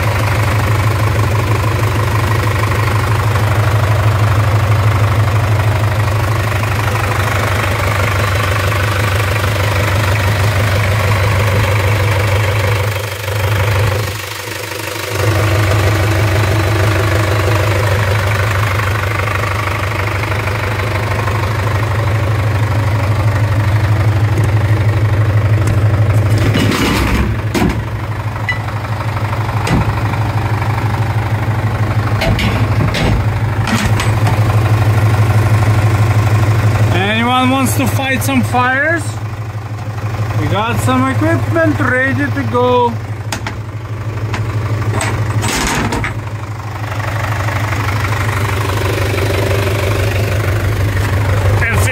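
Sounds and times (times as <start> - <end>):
truck engine idling: 0.0 - 51.9.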